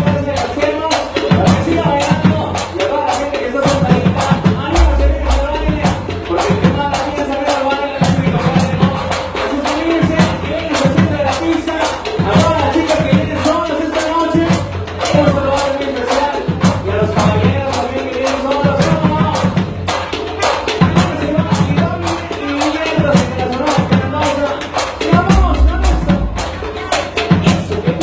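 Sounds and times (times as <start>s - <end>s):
cumbia band music: 0.0s - 28.0s.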